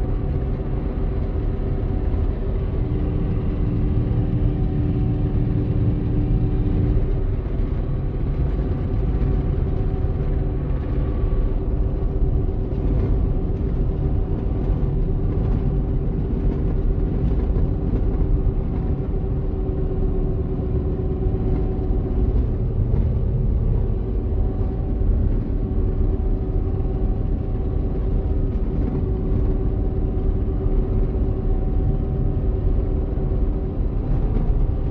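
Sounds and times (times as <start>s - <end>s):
combine diesel engine rumbling: 0.0s - 34.9s.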